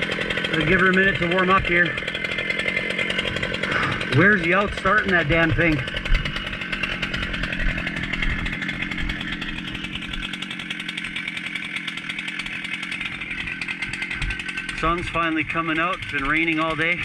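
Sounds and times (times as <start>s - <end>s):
chainsaw running: 0.0s - 17.0s.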